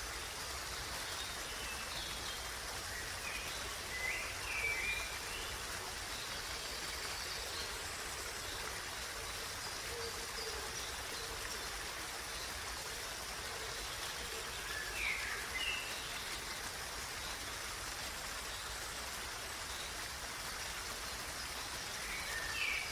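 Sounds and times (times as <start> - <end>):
water rushing: 0.0 - 22.9.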